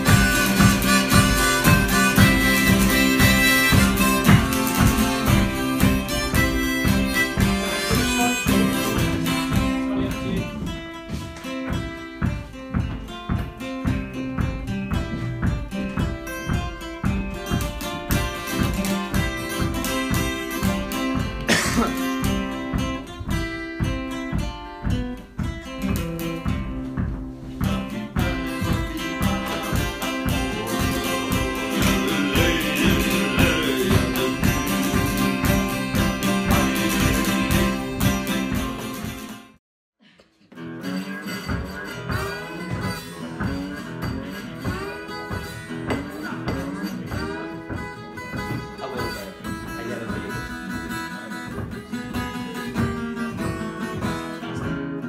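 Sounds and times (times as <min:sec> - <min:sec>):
lively folk dance tune: 0:00.0 - 0:39.6, 0:40.7 - 0:55.0.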